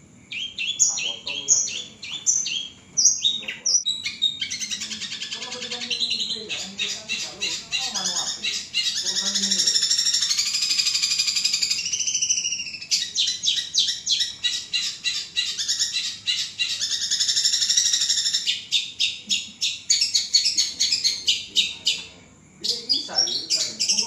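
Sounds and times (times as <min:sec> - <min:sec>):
bird singing buzzy trills: 0:00.0 - 0:24.0.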